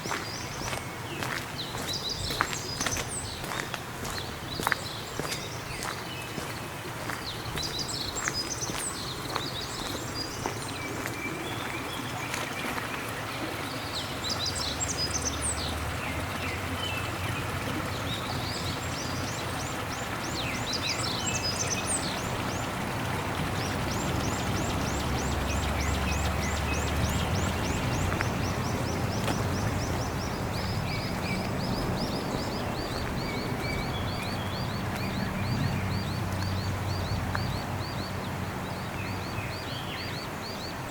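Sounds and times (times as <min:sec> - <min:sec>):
wild birds chirping: 0:00.0 - 0:40.9.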